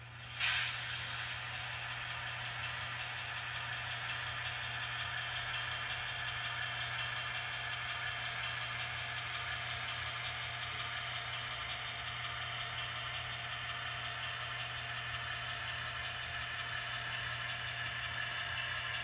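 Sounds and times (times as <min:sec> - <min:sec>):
diesel engine sound from small speaker: 0:00.0 - 0:19.0.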